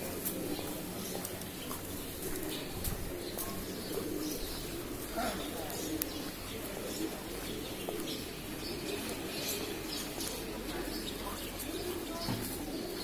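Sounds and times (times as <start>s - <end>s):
pigeons cooing: 0.0s - 13.0s
street ambience: 0.0s - 13.0s.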